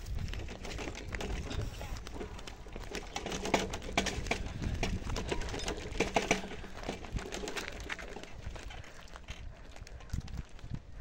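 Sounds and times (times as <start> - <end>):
vehicle rolling over gravel road: 0.0 - 11.0.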